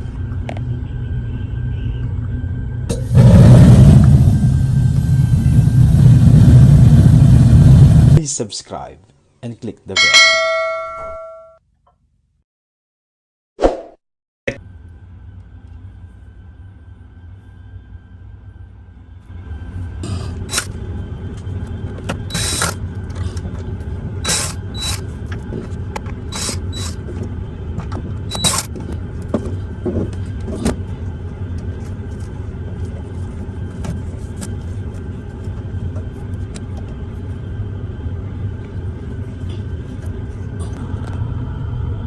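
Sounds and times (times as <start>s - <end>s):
low mechanical rumble and hum: 0.0s - 8.2s, 14.5s - 42.0s.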